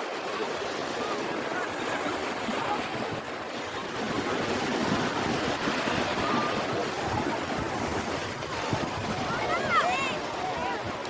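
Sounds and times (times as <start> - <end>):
sea waves surf: 0.0 - 11.0
wind on microphone: 0.9 - 11.0.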